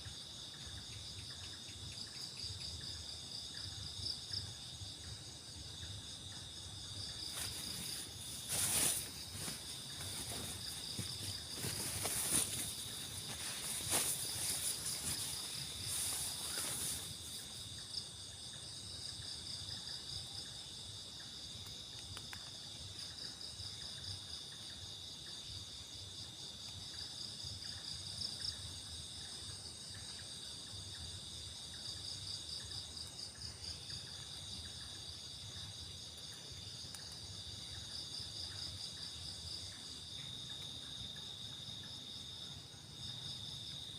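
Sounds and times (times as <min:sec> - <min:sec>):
crickets chirring: 0:00.0 - 0:43.9.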